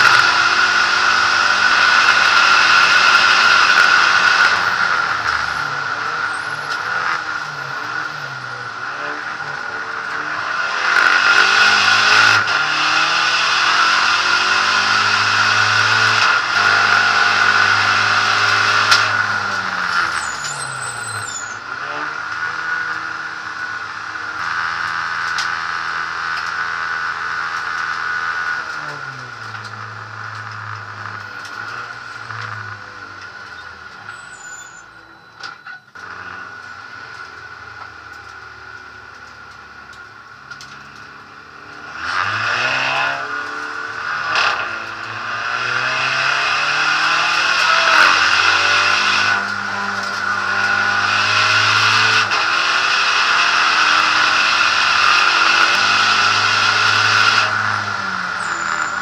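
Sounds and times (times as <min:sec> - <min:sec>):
race car engine revving: 0:00.0 - 0:35.1, 0:35.9 - 0:59.0.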